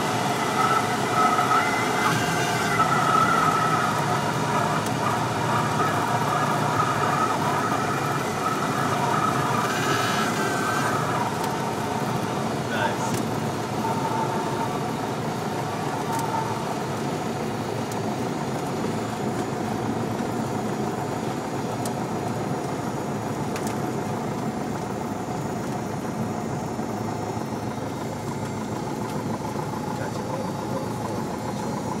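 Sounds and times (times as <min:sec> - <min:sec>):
airplane engine from inside cabin: 0:00.0 - 0:32.0.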